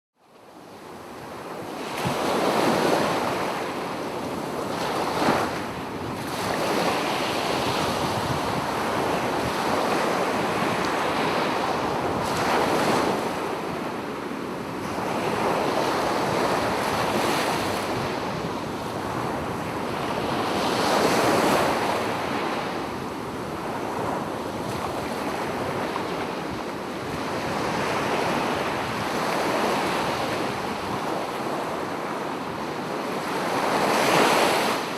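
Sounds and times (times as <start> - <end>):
waves breaking on shore: 1.3 - 34.9.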